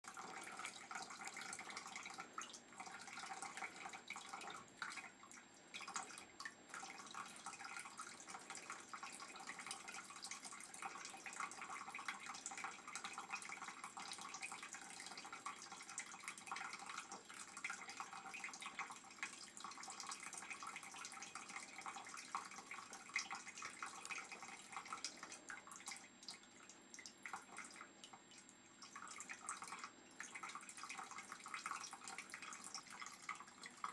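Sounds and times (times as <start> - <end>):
water trickling and dripping: 0.0 - 33.9.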